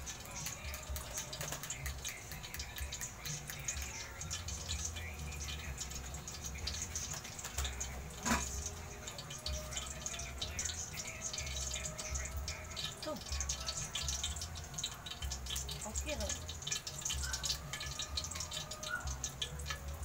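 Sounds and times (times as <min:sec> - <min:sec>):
hot oil crackling in a wok: 0:00.0 - 0:20.0.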